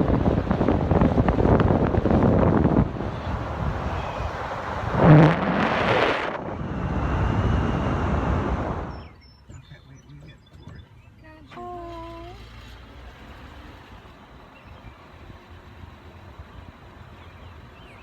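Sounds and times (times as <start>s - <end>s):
car tyre and wind noise: 0.0s - 9.2s, 12.8s - 18.0s.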